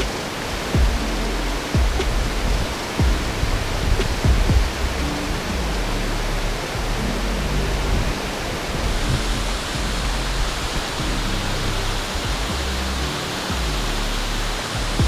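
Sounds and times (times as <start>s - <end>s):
faint background music: 0.0s - 15.0s
waterfall rushing: 0.0s - 15.0s.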